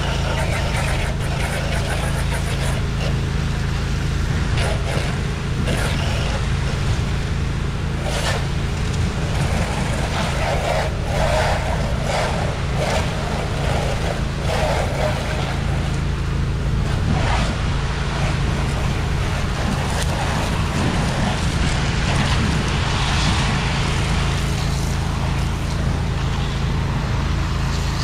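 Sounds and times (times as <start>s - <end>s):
pressure washer engine running: 0.0s - 28.0s
water jet spraying: 0.0s - 28.0s.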